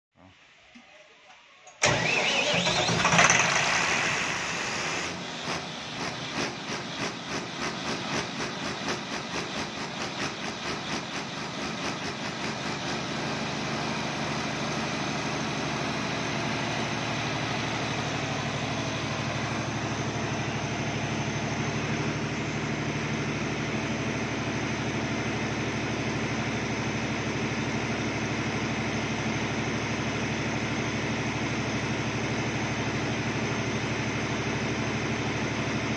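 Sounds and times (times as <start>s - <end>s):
diesel generator engine running: 1.8s - 35.9s.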